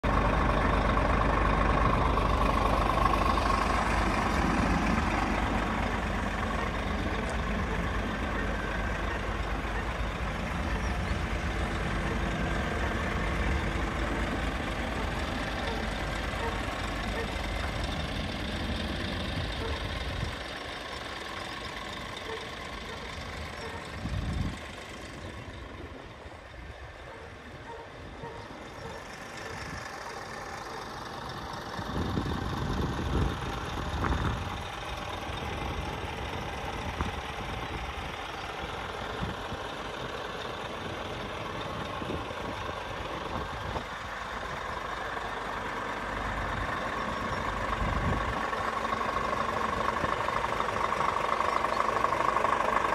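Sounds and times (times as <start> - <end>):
diesel truck engine idling: 0.0 - 52.9
low engine rumbles: 0.0 - 52.9.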